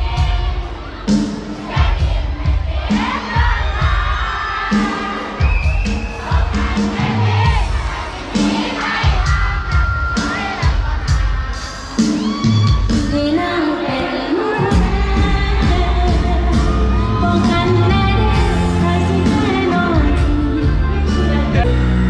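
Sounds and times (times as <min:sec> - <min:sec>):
pop music with singing: 0:00.0 - 0:22.0.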